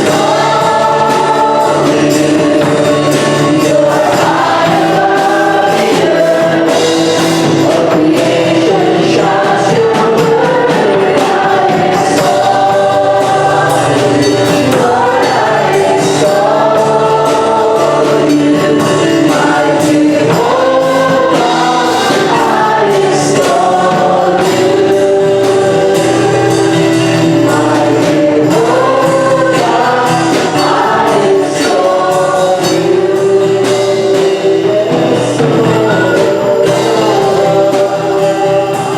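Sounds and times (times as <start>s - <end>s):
choir singing gospel song: 0.0s - 38.9s
instrumental backing: 0.0s - 38.9s.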